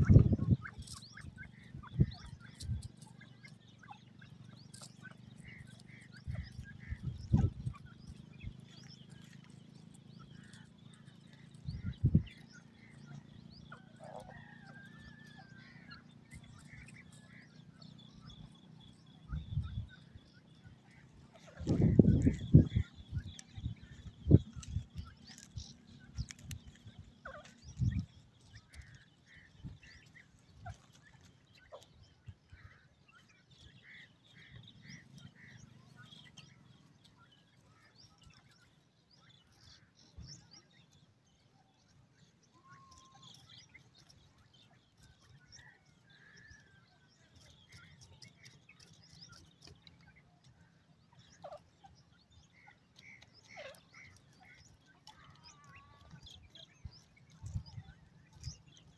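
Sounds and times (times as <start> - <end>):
francolins chirping softly: 0.0 - 58.9.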